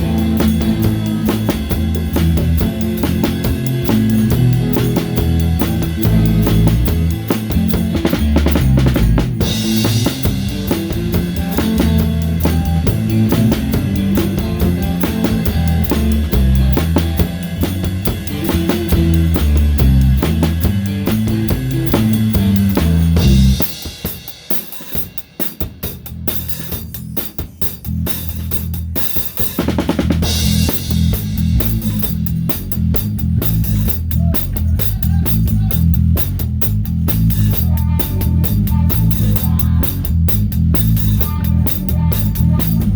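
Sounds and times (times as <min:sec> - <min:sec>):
drum kit playing: 0:00.0 - 0:42.9
live rock band playing: 0:00.0 - 0:42.9.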